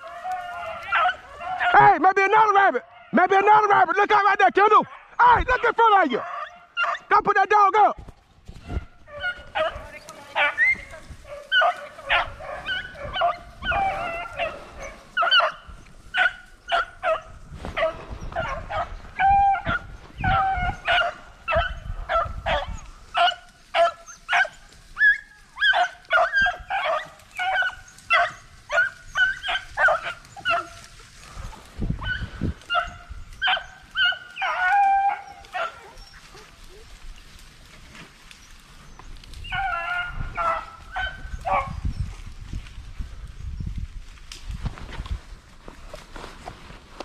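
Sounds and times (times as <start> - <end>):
hounds barking and yelping: 0.0 - 2.0, 2.8 - 4.0, 4.7 - 7.2, 8.6 - 42.2.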